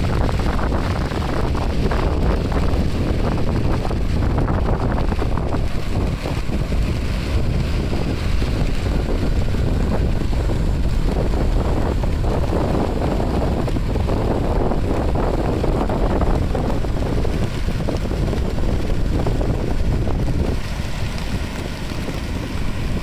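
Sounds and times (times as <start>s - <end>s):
ocean surf washing: 0.0s - 23.0s
wind buffeting microphone: 0.0s - 23.0s.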